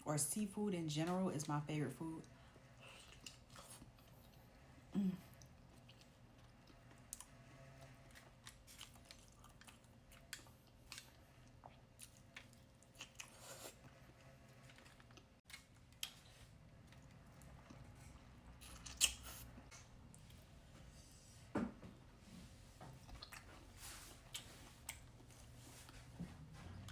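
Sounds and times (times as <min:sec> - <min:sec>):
chewing: 0:02.2 - 0:20.4, 0:23.0 - 0:26.9.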